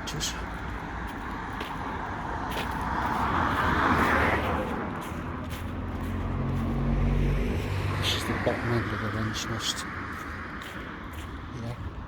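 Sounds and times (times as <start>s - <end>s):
car passing by: 0.9s - 11.5s.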